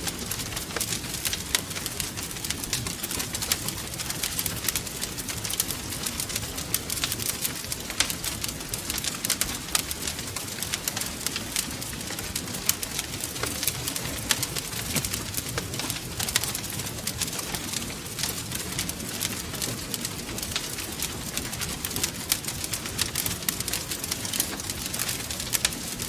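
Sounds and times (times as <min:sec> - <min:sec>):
low rumble of burning: 0:00.0 - 0:26.0
wood fire crackling: 0:00.0 - 0:26.0.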